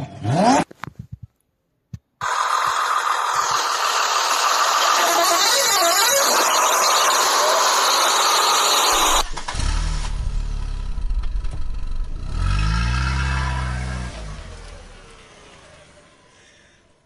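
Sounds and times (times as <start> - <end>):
car engine revving: 2.2 - 16.9.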